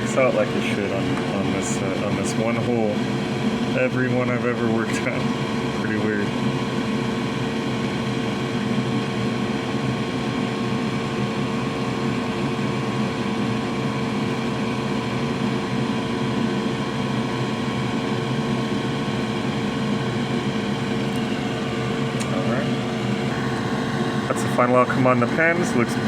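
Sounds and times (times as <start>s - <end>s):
electric blower whirring: 0.0s - 26.0s.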